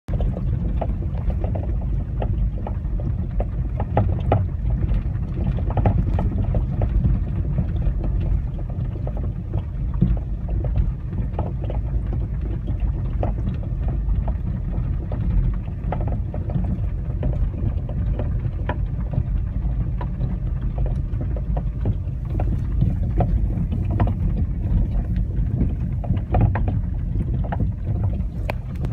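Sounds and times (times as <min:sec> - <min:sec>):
low rumble of moving car: 0:00.1 - 0:28.9
suspension knocking: 0:00.1 - 0:28.9.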